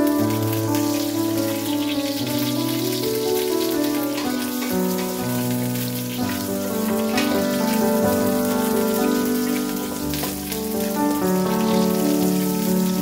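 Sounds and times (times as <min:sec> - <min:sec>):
background music with held notes: 0:00.0 - 0:13.0
spices sizzling in hot oil: 0:00.0 - 0:13.0.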